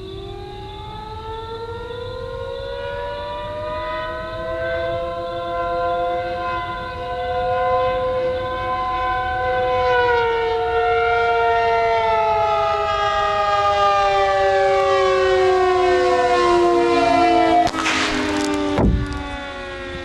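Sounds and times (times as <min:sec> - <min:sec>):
model aircraft siren wailing: 0:00.0 - 0:20.0.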